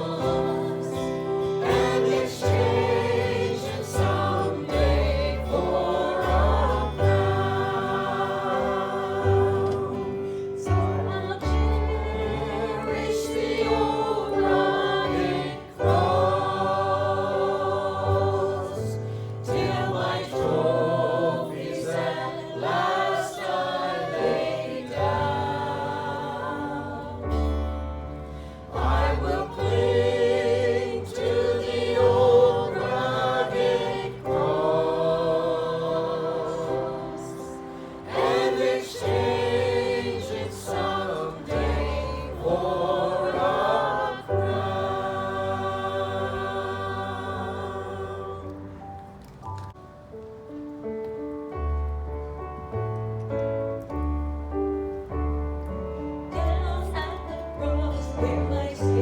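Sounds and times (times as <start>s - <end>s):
group singing a gospel hymn: 0.0s - 49.4s, 55.9s - 59.0s.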